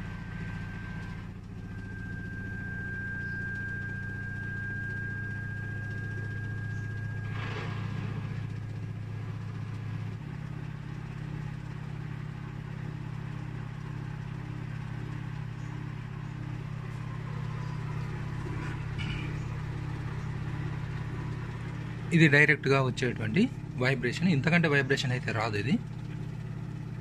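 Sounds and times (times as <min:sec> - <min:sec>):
washing machine drum spinning: 0:00.0 - 0:22.4.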